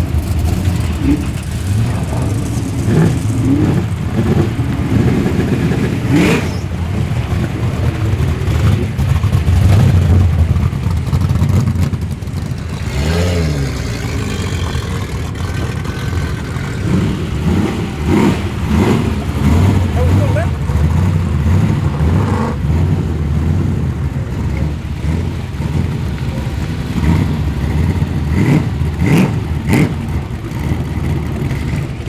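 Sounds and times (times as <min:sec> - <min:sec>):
engine revving: 0:00.0 - 0:32.0
muscle car engines running: 0:00.0 - 0:32.0.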